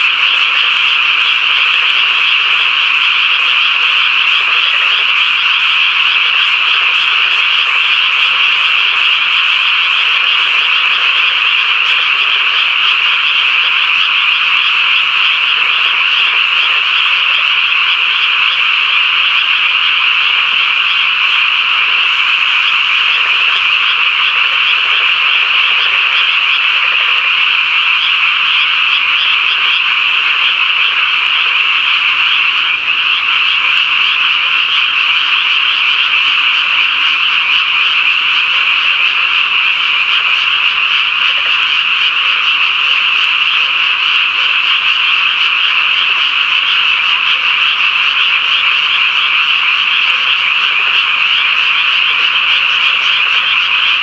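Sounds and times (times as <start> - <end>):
frog chorus: 0.0 - 54.0.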